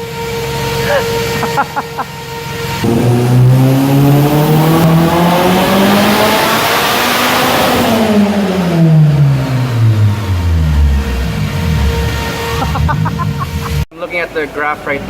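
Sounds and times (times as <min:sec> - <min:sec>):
engine revving on dyno: 0:00.0 - 0:13.9.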